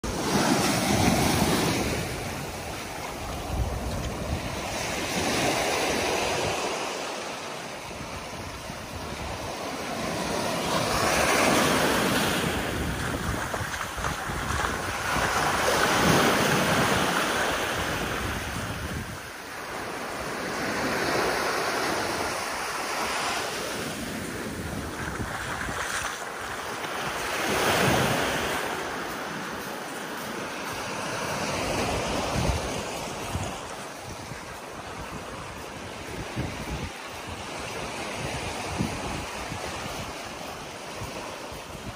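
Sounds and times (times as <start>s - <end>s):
small waves washing ashore: 0.0s - 41.9s
wind rumbling on microphone: 0.0s - 41.9s.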